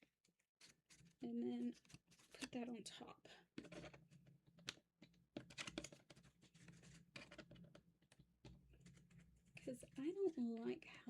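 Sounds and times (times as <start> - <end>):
plastic parts clicking and scraping: 0.6 - 2.6, 3.5 - 10.8.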